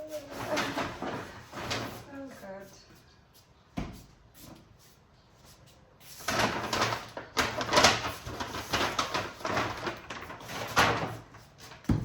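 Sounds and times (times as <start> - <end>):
groceries rustling and clattering: 0.0 - 3.0, 3.8 - 12.0.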